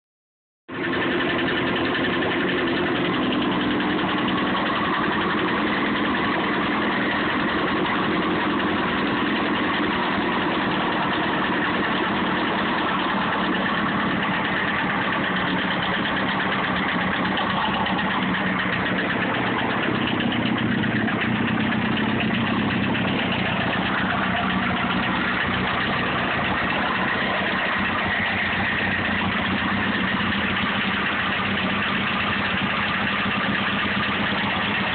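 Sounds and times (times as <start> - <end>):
engine knocking and ticking: 0.7 - 34.9
motorcycle engine idling: 0.7 - 34.9.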